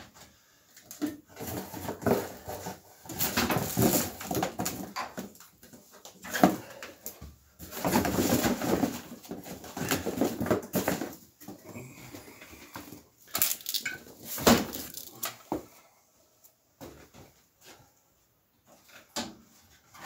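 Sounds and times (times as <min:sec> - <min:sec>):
cable rustling and scraping on floor: 0:00.0 - 0:20.0.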